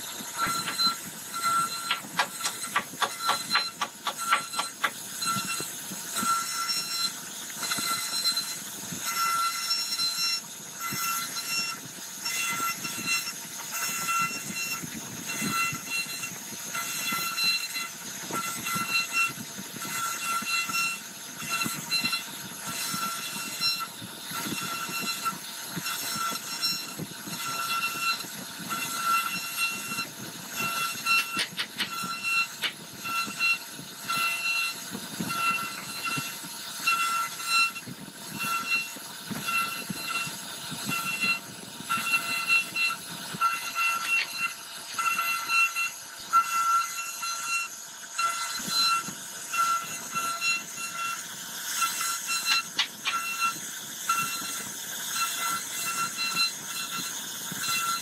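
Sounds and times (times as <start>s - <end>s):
rough wood cutting hiss: 0.0s - 58.0s
router spindle high-pitched whine: 0.0s - 58.0s.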